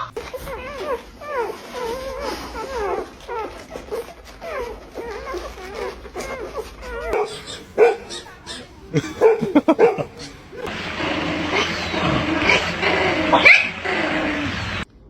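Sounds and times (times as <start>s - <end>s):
dog whimpering: 0.0s - 10.7s, 11.4s - 14.6s.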